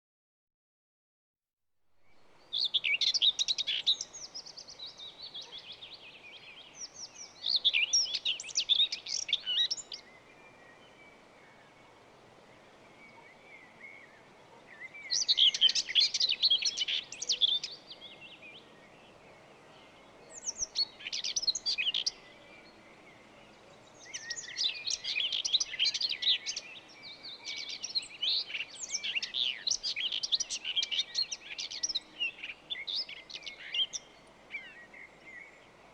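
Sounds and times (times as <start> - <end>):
birds chirping and warbling: 2.4 - 35.9.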